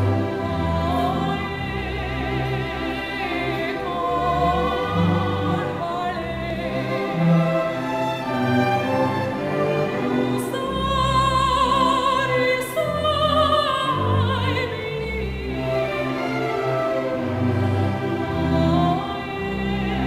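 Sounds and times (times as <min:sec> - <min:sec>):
woman singing opera: 0:00.0 - 0:07.8, 0:10.0 - 0:20.0
string orchestra: 0:00.0 - 0:20.0.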